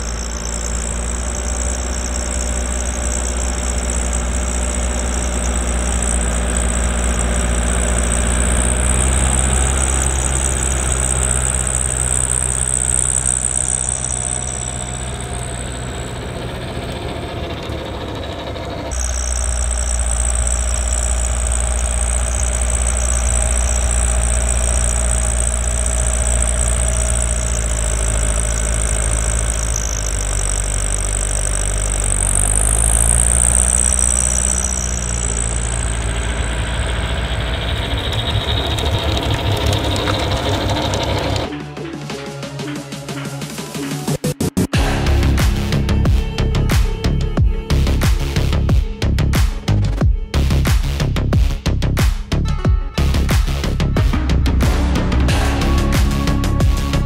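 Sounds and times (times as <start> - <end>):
diesel tractor engine under load: 0.0 - 57.0
snowblower high whine: 0.0 - 57.0.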